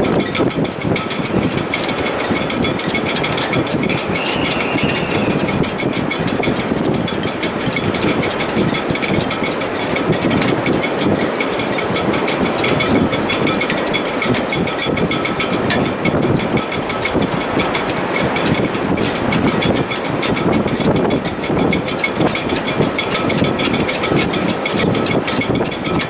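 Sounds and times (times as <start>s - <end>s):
faint whistling wind tones: 0.0s - 26.0s
fast ticking from rigging: 0.0s - 26.0s
wind rushing in rigging: 0.0s - 26.0s.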